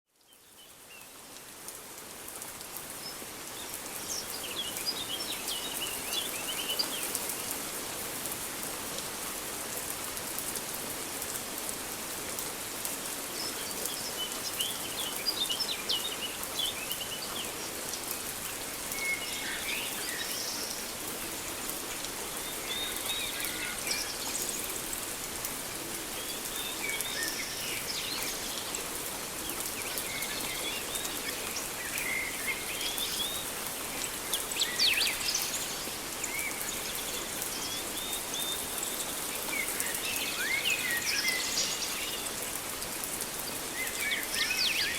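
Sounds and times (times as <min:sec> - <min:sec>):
steady rain: 0:00.1 - 0:44.9.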